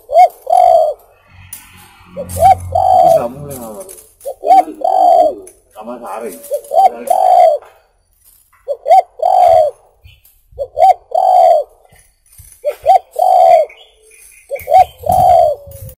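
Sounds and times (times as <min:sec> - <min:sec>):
dove cooing: 0:00.0 - 0:01.1, 0:02.1 - 0:07.7, 0:08.6 - 0:09.9, 0:10.5 - 0:16.0.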